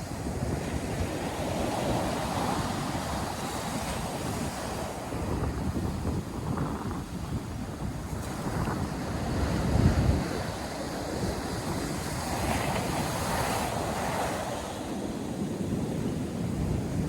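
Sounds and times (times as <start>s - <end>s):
surf breaking on a sandy beach: 0.0s - 17.0s
wind buffeting microphone: 0.0s - 17.0s.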